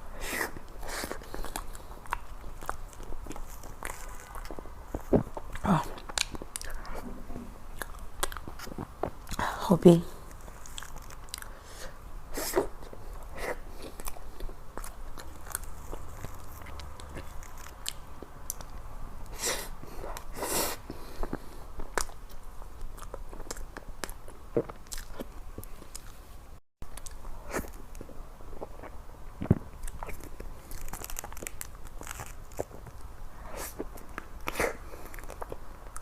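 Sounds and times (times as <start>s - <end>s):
person chewing: 0.1s - 9.4s, 10.2s - 26.2s, 26.8s - 36.0s.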